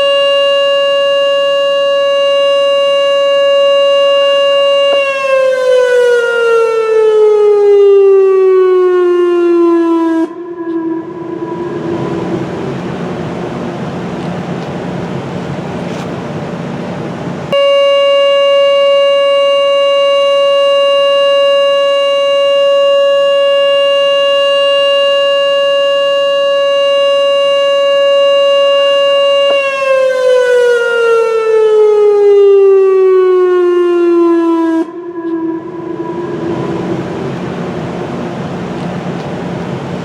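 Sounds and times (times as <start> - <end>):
outdoor warning siren: 0.0 - 15.8, 17.5 - 40.0.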